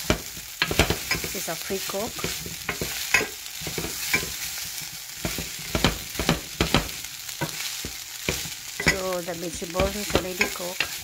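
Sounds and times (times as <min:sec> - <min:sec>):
rice sizzling: 0:00.0 - 0:11.0
wooden spatula scraping frying pan: 0:00.0 - 0:11.0.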